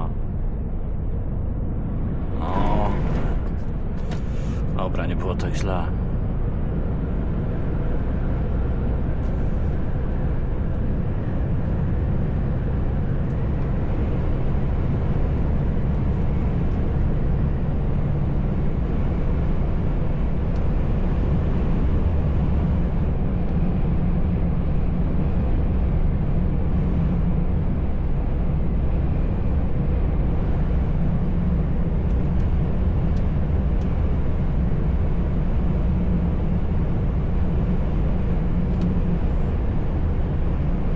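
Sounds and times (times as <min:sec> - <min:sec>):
truck engine rumble: 0:00.0 - 0:40.9.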